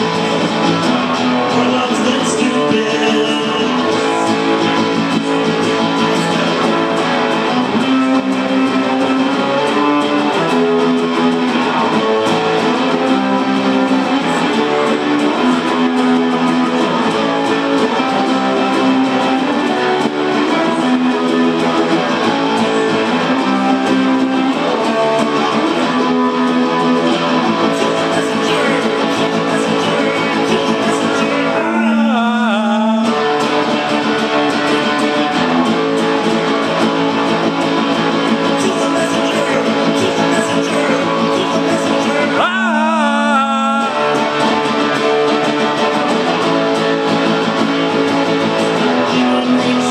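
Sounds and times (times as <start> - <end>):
acoustic guitar strumming: 0.0 - 49.9.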